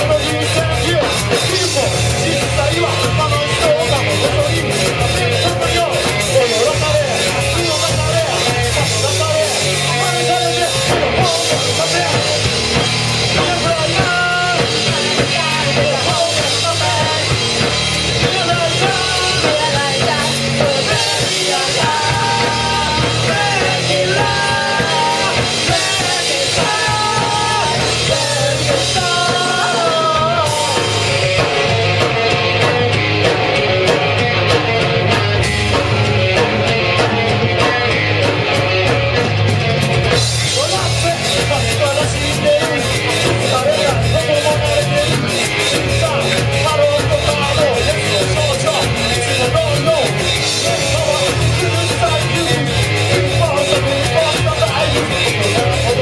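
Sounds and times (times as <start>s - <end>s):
person singing lead vocal: 0.0s - 38.3s, 40.4s - 56.0s
drum kit fast beat: 0.0s - 56.0s
rock band playing live: 0.0s - 56.0s.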